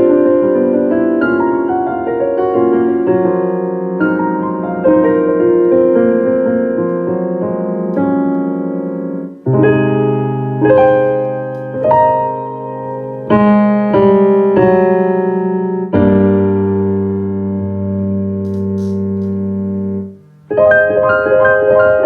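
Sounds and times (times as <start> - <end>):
piano playing slow chords: 0.0 - 22.0.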